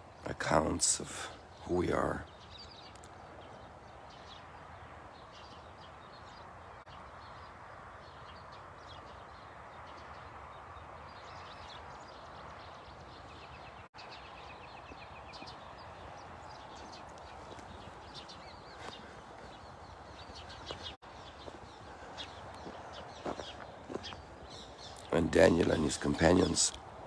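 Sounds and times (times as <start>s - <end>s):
outdoor background hiss: 0.0s - 27.0s
small birds chirping: 0.0s - 27.0s.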